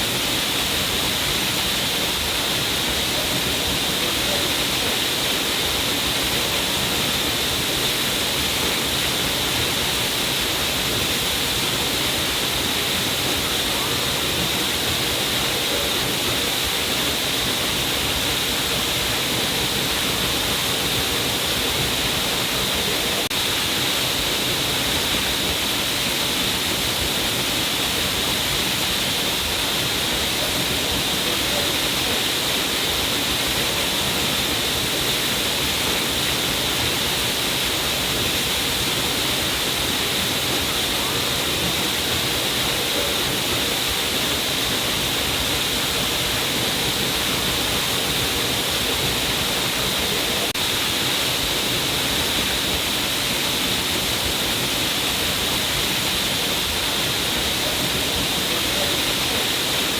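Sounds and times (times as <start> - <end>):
water falling and splashing: 0.0 - 59.9.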